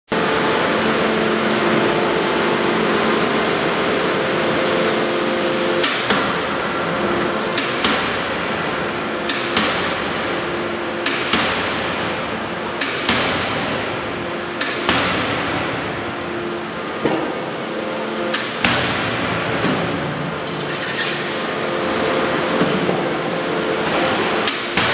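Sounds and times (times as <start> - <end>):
steady machine hum: 0.1 - 24.9.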